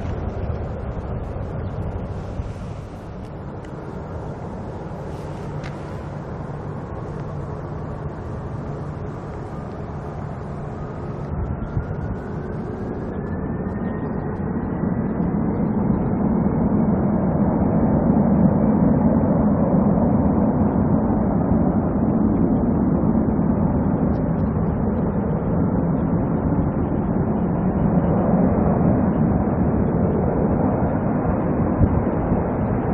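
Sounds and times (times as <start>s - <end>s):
jet engine rumble: 0.0s - 32.9s
rising jet engine whine: 0.0s - 32.9s.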